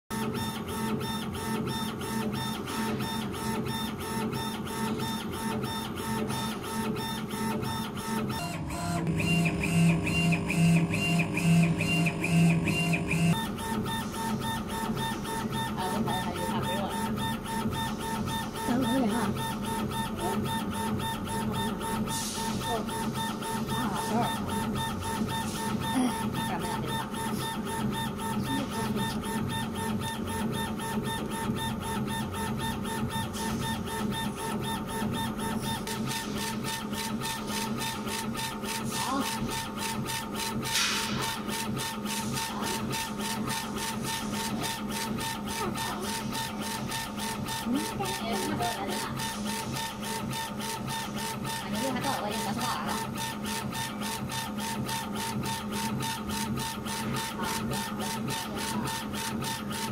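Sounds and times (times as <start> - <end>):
laser engraver machine whir: 0.1 - 59.9.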